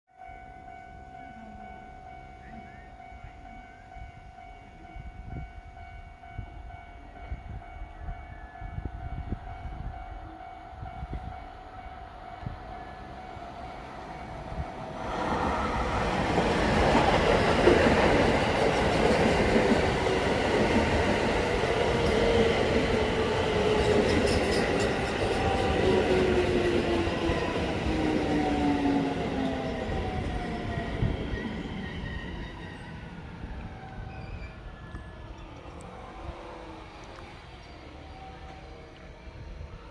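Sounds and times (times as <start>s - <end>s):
train rushing in: 2.1s - 39.9s.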